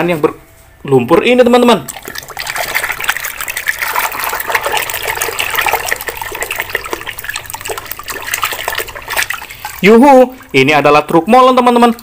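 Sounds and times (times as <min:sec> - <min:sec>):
water sloshing in bucket: 0:01.8 - 0:12.0.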